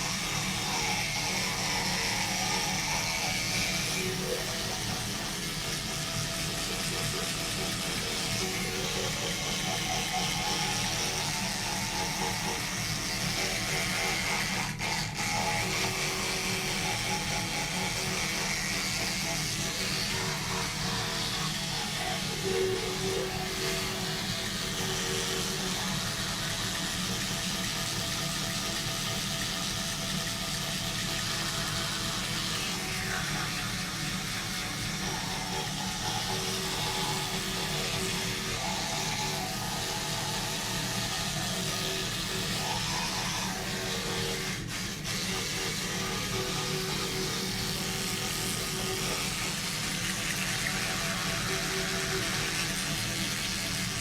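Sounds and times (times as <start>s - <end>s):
electric toothbrush buzzing: 0.0s - 54.0s.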